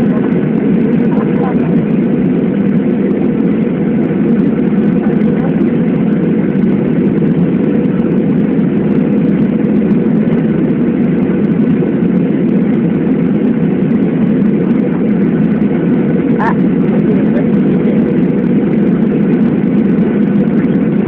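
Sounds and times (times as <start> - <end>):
airliner cabin jet engine noise: 0.0 - 21.0.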